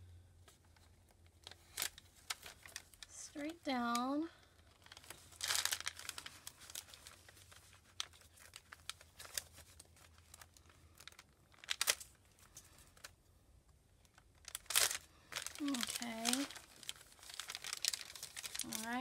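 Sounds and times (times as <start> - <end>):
paper and tape crackling: 0.4 - 19.0.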